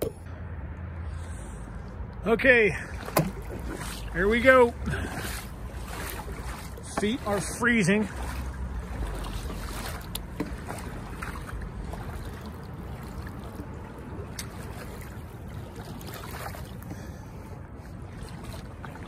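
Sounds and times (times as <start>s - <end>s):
creek water rushing: 2.3s - 19.0s.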